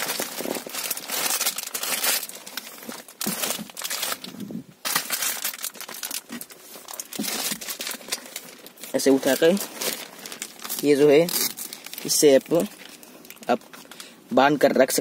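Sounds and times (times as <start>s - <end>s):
plastic wrap crinkling: 0.0s - 14.2s.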